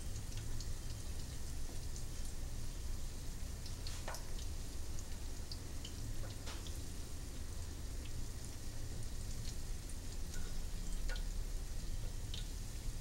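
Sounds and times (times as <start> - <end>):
fritters sizzling in oil: 0.0 - 13.0.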